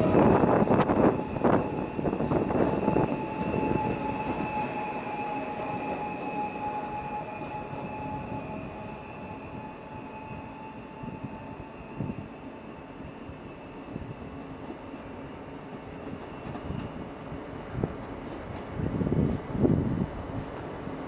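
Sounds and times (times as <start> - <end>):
electric train whine: 0.0 - 21.0
train wheels rumbling on track: 0.0 - 21.0.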